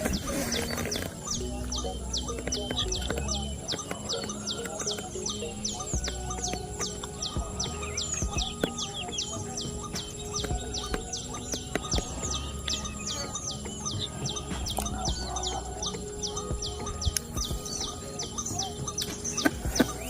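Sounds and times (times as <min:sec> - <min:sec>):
lower bird calls: 0:00.0 - 0:20.0.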